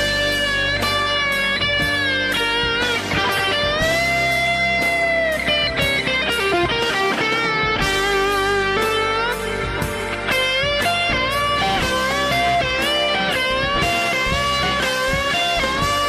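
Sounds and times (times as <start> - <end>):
electric guitar music: 0.0 - 16.0.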